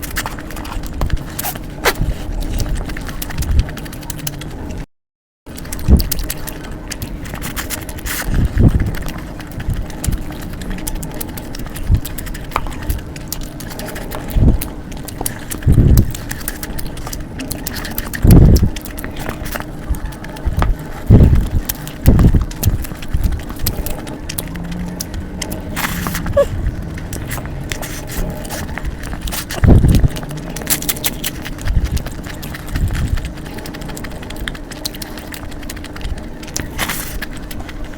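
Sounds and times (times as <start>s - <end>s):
chewing and mouth noises: 0.0s - 4.8s, 5.5s - 37.9s
scattered clicks: 5.5s - 37.9s.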